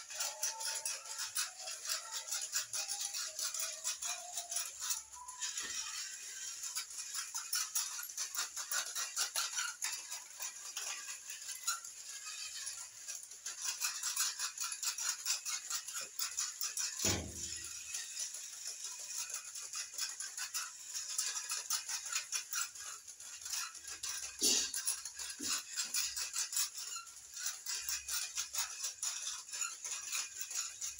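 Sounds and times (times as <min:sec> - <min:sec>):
toy horses clattering on tile: 0:00.0 - 0:30.9.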